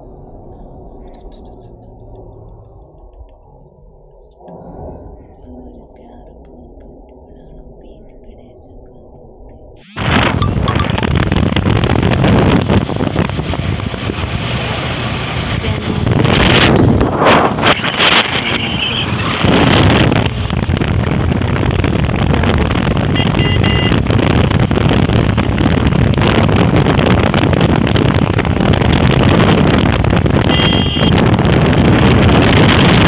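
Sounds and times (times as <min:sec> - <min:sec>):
road vehicle rumble: 0:00.0 - 0:33.0
wind buffeting microphone: 0:00.0 - 0:33.0.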